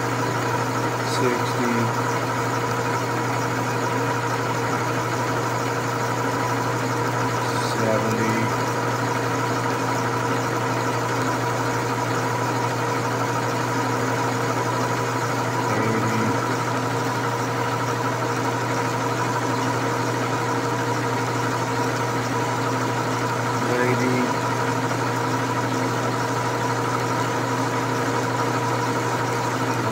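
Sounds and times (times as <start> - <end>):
metal lathe running: 0.0 - 29.9.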